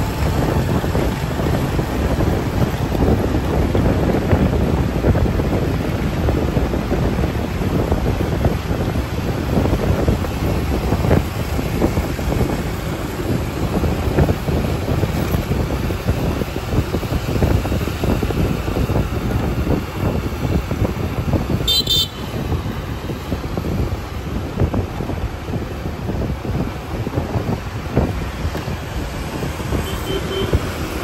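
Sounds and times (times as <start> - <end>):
motorbike engine and road noise: 0.0 - 31.0
rumble of traffic: 0.0 - 31.0
wind buffeting microphone: 0.0 - 31.0.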